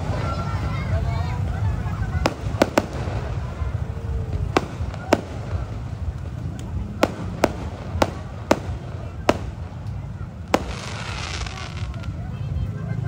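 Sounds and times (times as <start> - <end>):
fireworks hissing: 0.0 - 12.6
fireworks bangs: 1.9 - 12.6.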